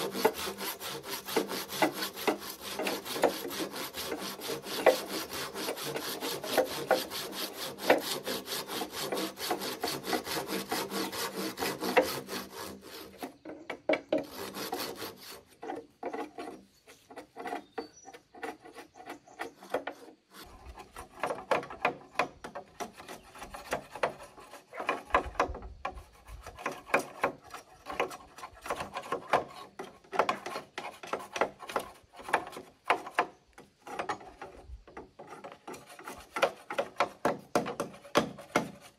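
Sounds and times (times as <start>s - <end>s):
hand tool rasping on wood: 0.0s - 38.9s.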